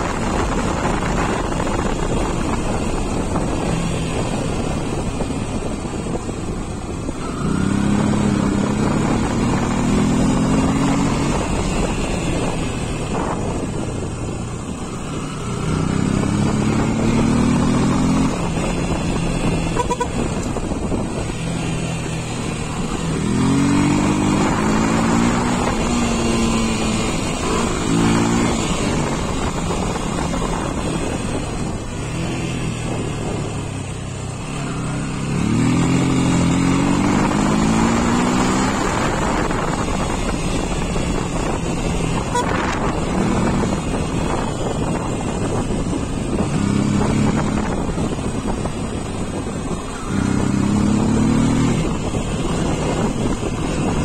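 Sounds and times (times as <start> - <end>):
motorcycle engine revving: 0.0 - 54.0
wind noise on microphone: 0.0 - 54.0.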